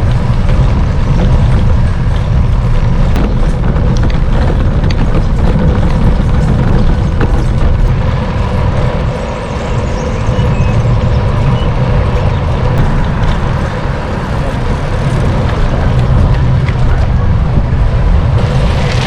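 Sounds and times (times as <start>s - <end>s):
road traffic: 0.0s - 19.0s
wind rumbling on microphone: 0.0s - 19.0s.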